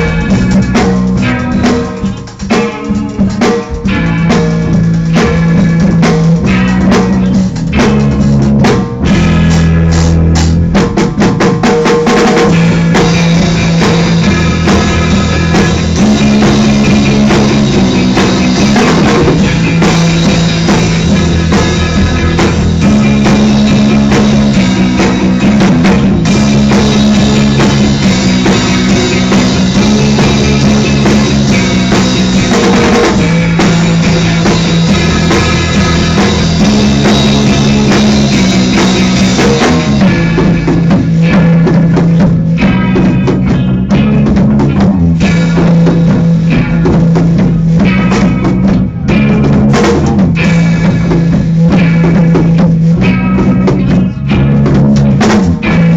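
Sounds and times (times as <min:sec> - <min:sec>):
drum hits: 0:00.0 - 0:55.9
rock band playing: 0:00.0 - 0:55.9.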